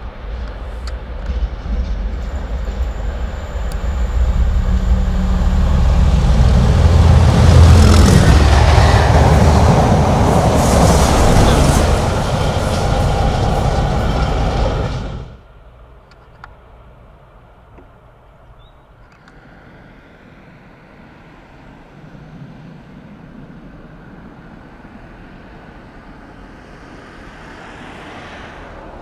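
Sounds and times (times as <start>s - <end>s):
diesel locomotive engine drone: 0.0s - 29.0s
train wheel and rail noise: 0.0s - 29.0s.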